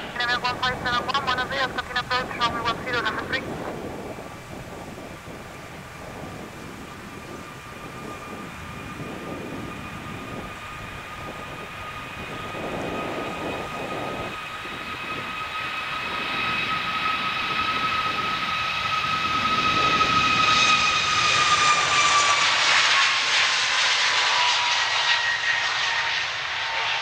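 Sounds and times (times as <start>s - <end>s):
jet engines at takeoff thrust: 0.0s - 27.0s.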